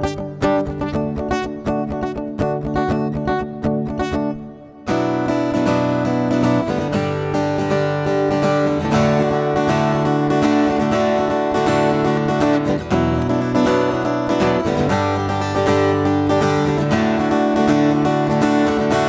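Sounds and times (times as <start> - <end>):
acoustic guitar instrumental: 0.0 - 19.0.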